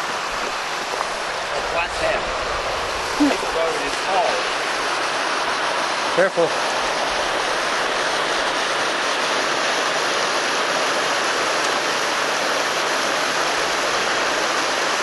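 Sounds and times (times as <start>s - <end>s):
water rushing over dam: 0.0s - 15.0s.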